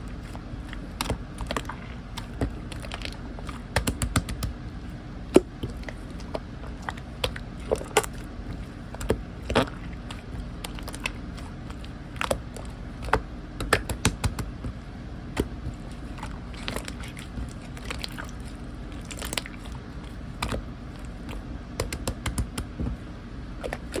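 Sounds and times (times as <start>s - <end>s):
slime squishing with sticky pops: 0.1s - 24.0s.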